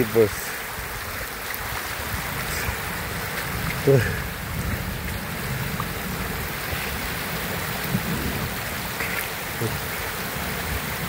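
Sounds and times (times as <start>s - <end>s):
heavy rain pouring: 0.0s - 11.0s
raindrops striking microphone: 0.0s - 11.0s.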